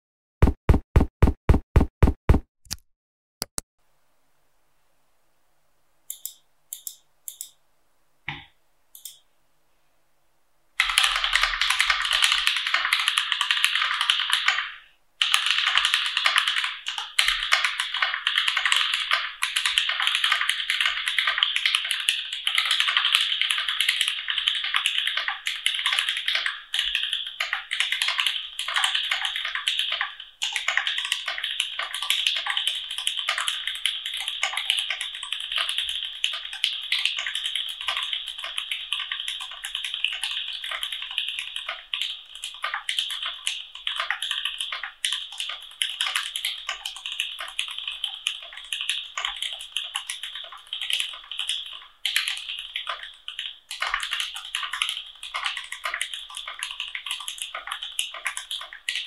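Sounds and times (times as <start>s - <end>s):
keyboard clicks: 6.1s - 7.6s, 8.3s - 9.2s, 10.8s - 59.0s
typing on a mechanical keyboard: 10.8s - 59.0s.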